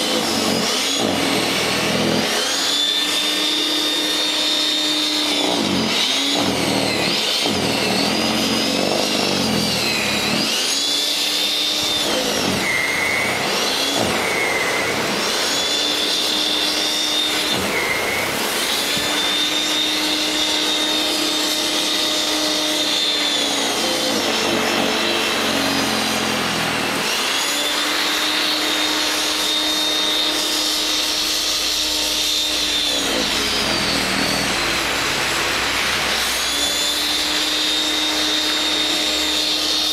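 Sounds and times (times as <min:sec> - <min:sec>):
electric snow thrower whining: 0:00.0 - 0:39.9.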